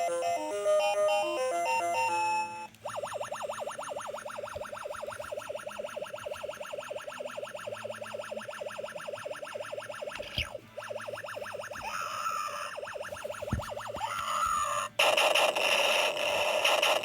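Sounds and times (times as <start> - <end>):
electronic toy beeping: 0.0 - 17.0
fast electronic warble: 2.8 - 17.0.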